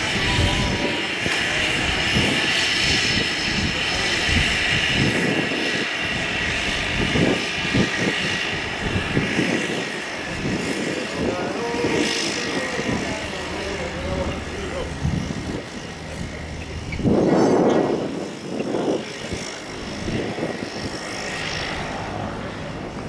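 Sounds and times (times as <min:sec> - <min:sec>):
propeller churn: 0:00.0 - 0:23.0
turboprop engine whine: 0:00.0 - 0:23.0.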